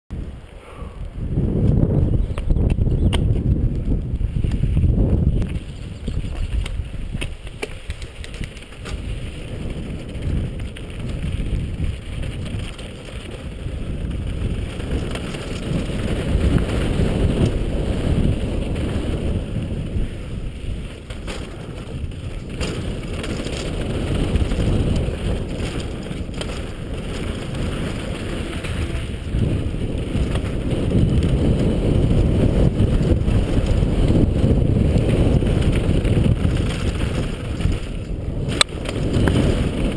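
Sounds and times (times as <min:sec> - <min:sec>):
wind buffeting microphone: 0:00.1 - 0:39.9.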